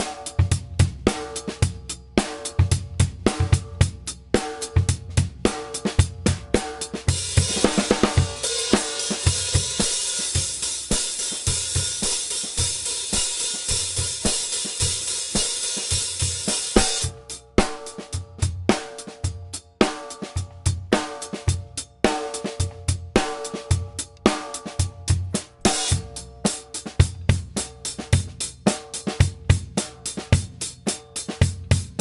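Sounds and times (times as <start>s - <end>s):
loud hi-hat wash: 0.0s - 18.2s, 22.3s - 32.0s
drum kit beat: 0.0s - 32.0s.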